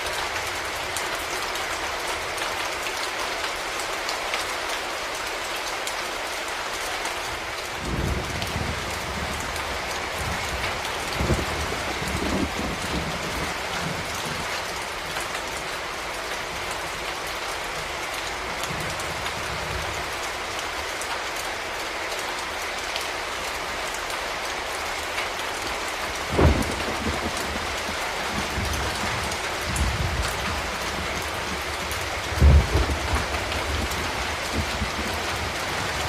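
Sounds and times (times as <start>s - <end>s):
rain pattering: 0.0s - 36.0s.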